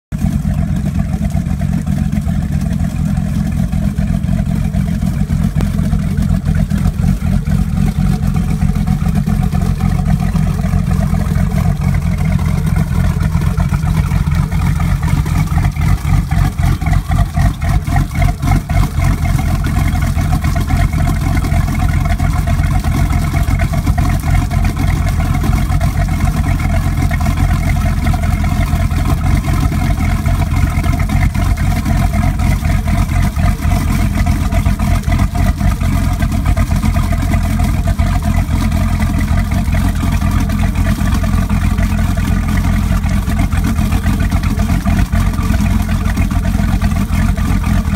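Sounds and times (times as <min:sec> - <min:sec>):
boat engine idling: 0:00.1 - 0:47.9.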